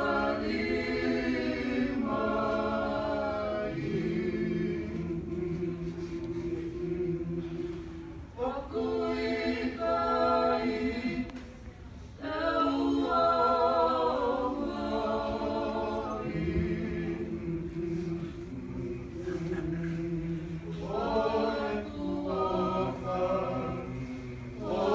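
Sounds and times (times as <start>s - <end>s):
group singing unaccompanied: 0.0s - 11.5s, 12.2s - 24.9s.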